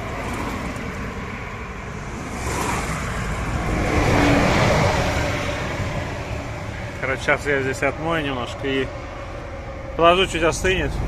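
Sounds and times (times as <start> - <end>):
steady road noise: 0.0 - 11.0
vehicle passing: 0.0 - 11.0.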